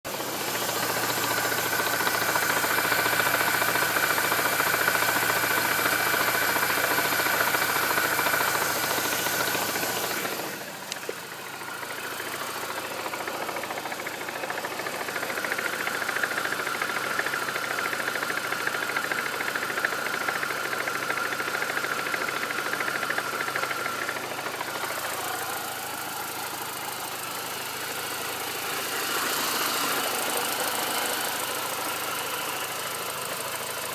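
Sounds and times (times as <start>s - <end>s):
car engine knocking: 0.0s - 33.9s.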